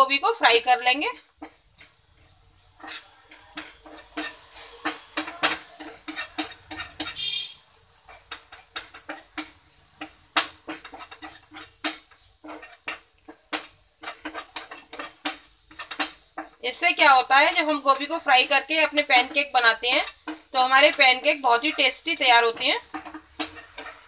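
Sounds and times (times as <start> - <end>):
wooden spatula scraping a pan: 0.0 - 24.0.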